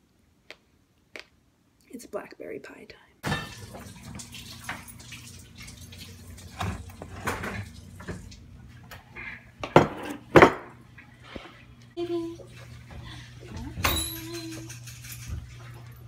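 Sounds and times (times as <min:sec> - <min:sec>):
low steady hum: 0:01.8 - 0:16.0.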